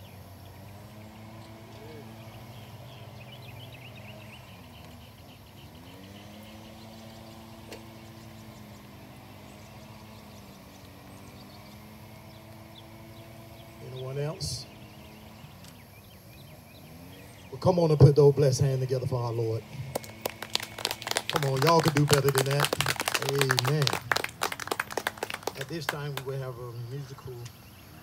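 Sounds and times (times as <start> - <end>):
engine idling hum: 0.0 - 28.0.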